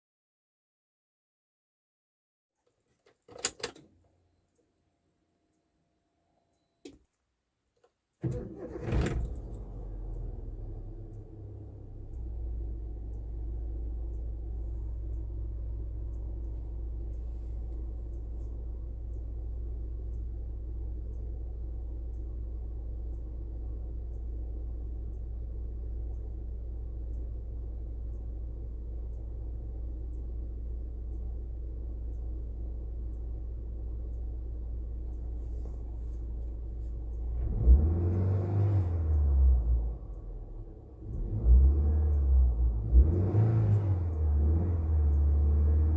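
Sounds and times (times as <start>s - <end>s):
car engine idling and revving: 8.2s - 45.9s.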